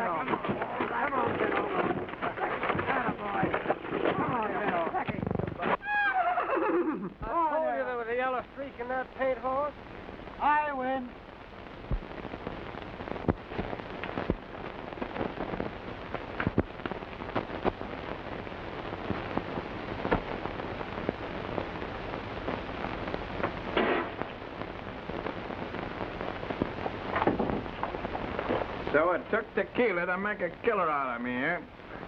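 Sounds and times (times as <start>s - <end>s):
film soundtrack surface noise: 0.0s - 32.0s.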